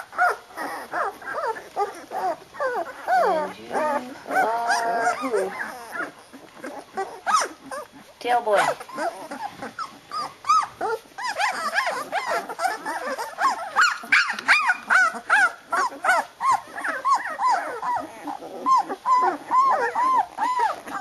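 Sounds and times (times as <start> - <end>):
puppies crying: 0.0 - 21.0.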